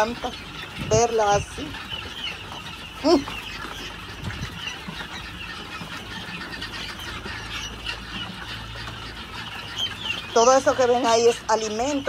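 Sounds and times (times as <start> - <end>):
keets peeping and chirping: 0.0 - 12.0.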